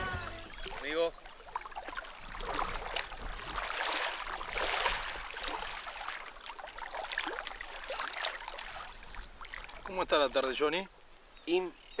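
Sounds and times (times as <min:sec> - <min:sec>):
water splashing around wading person: 0:00.0 - 0:10.0.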